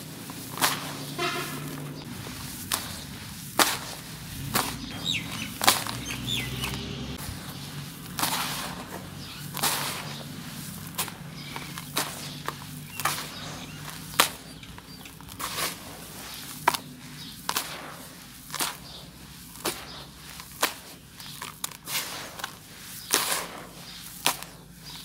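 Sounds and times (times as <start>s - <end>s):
dirt clumps crunching: 0.0s - 25.0s
gritty hiss of pouring dirt: 0.0s - 25.0s.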